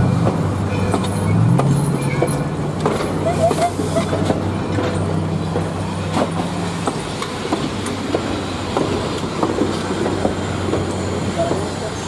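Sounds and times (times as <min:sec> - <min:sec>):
steel wheels rumbling on rail: 0:00.0 - 0:12.0
wheels clicking over rail joints: 0:00.2 - 0:12.0.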